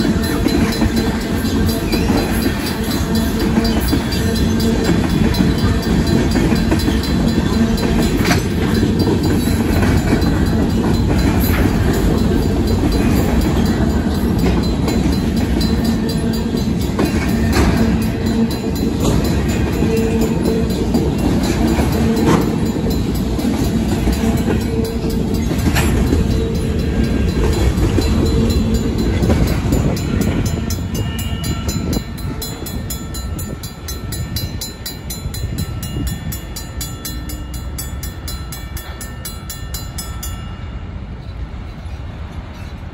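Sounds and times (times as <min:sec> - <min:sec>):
freight cars rumbling and clacking: 0:00.0 - 0:37.7
crossing bell ringing: 0:00.0 - 0:42.8.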